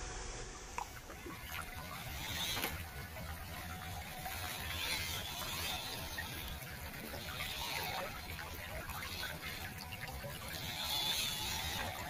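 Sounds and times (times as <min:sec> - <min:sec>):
stream running over rocks: 0:01.0 - 0:12.0
toy car wheels sloshing water: 0:01.0 - 0:12.0.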